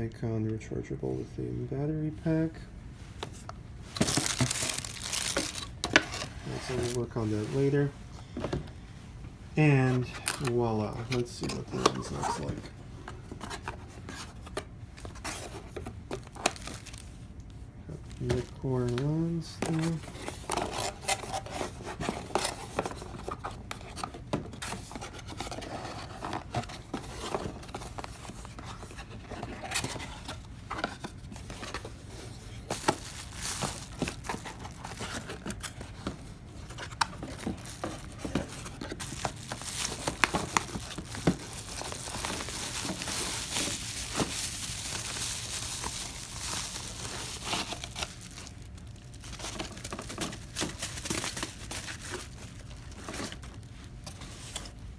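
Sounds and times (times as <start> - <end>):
packaging crinkling and rustling: 3.0 - 7.9, 9.6 - 54.9.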